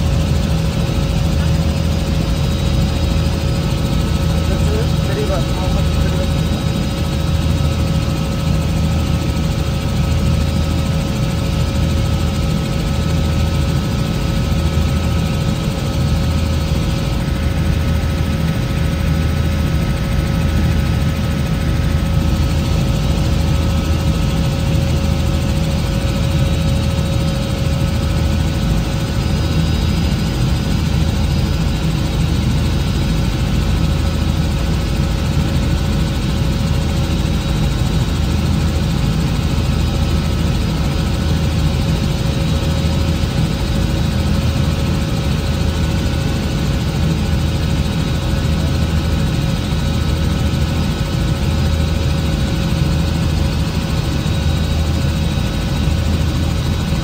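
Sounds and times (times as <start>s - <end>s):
helicopter rotor and engine drone: 0.0s - 57.0s
steady whine: 0.0s - 57.0s.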